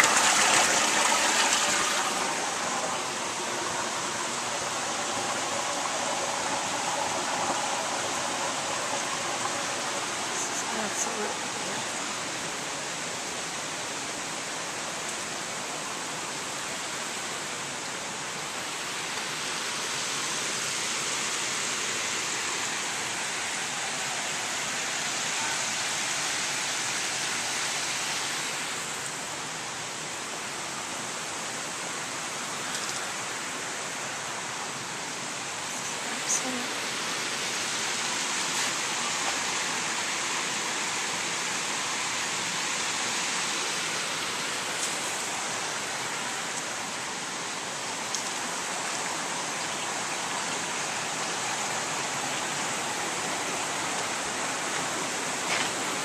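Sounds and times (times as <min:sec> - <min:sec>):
water splashing over weirs: 0:00.0 - 0:56.0.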